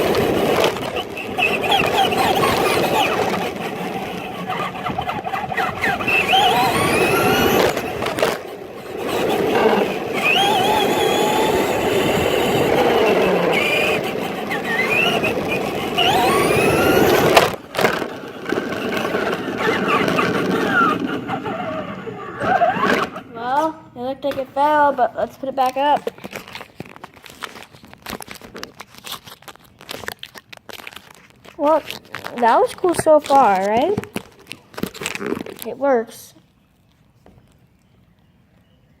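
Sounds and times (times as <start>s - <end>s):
rc truck motor whining: 0.0s - 36.2s
wheels rumbling on ground: 0.0s - 38.9s.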